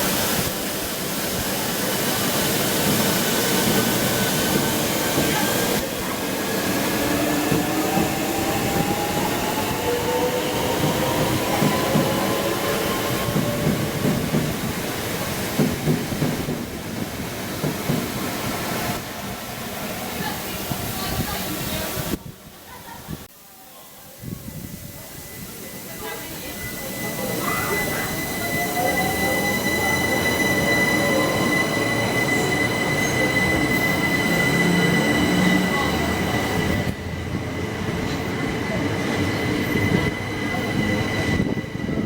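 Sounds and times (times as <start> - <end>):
passenger train whine rising: 0.0 - 20.6, 24.0 - 42.0.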